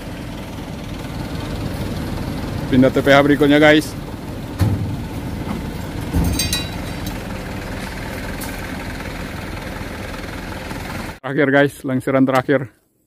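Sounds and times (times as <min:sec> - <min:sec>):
truck engine idling: 0:00.0 - 0:11.2.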